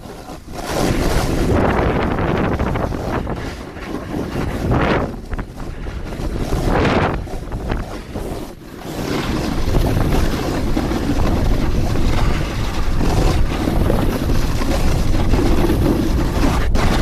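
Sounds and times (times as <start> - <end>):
snowboard sliding over snow: 0.0 - 17.0
wind buffeting microphone: 0.0 - 17.0.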